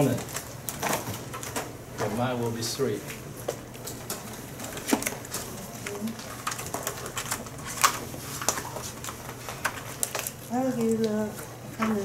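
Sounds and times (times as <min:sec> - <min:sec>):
faint low equipment hum: 0:00.0 - 0:12.0.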